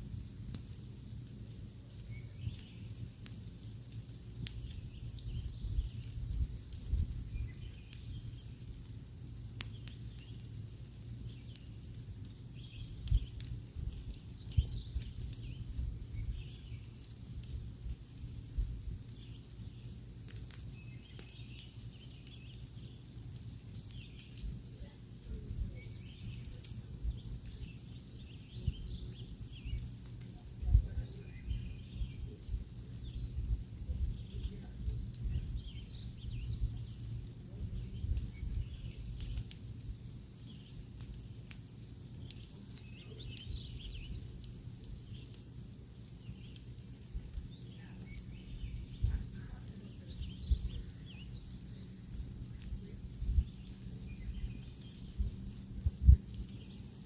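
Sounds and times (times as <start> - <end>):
campfire crackling and popping: 0.0 - 57.0
birds chirping: 0.1 - 57.0.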